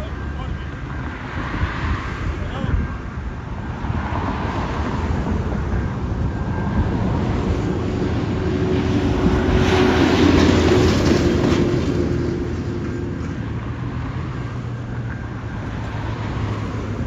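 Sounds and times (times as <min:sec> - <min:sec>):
large vehicle passing: 0:00.0 - 0:17.0.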